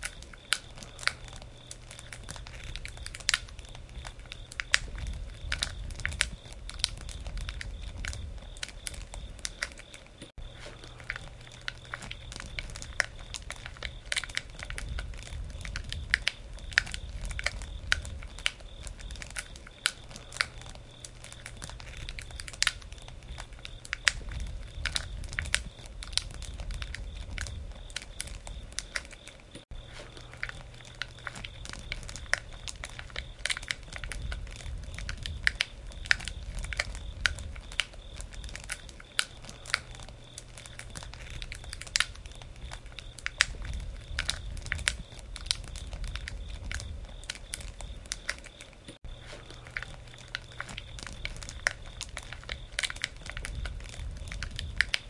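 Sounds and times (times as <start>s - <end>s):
campfire pops and snaps: 0.0s - 55.0s
low rumble of flames: 0.0s - 55.0s.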